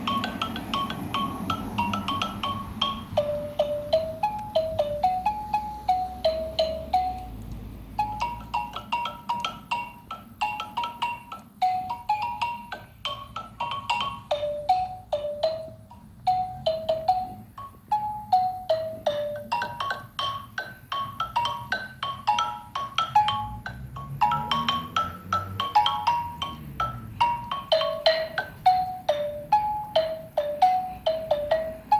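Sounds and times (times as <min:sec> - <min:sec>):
xylophone melody: 0:00.0 - 0:31.9.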